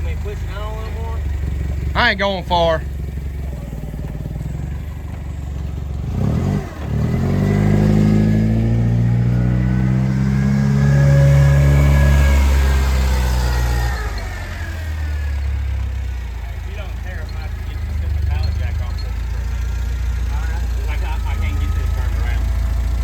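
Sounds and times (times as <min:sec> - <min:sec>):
vehicle engine pulling away: 0:00.0 - 0:23.0.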